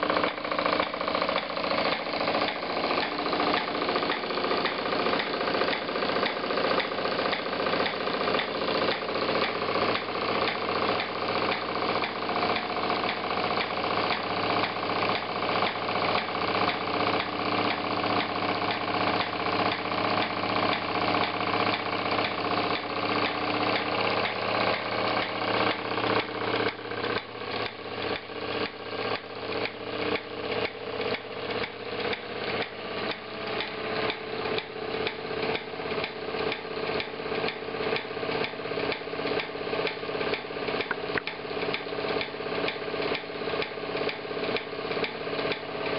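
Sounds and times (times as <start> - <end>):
regular mechanical knock: 0.0 - 45.9
toy steam engine clatter: 0.0 - 45.9.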